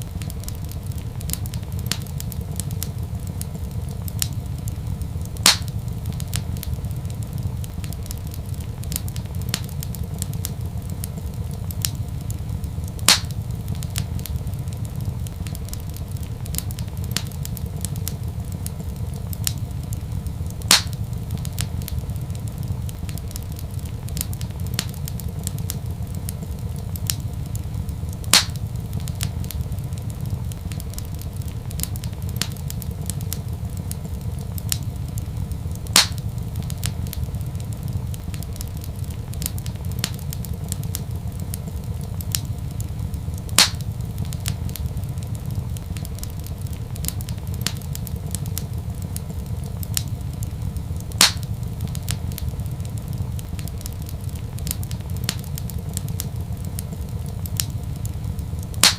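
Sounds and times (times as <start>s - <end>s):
sharp pops of fire: 0.0s - 58.9s
wood fire crackling: 0.0s - 58.9s.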